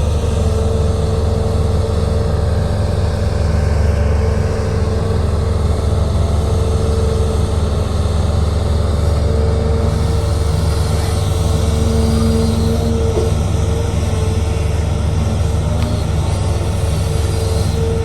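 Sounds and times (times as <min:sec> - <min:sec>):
heavy machinery engine drone: 0:00.0 - 0:18.0.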